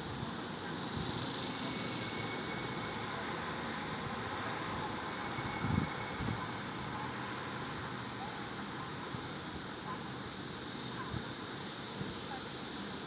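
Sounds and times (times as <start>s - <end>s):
urban background rumble: 0.0s - 12.8s.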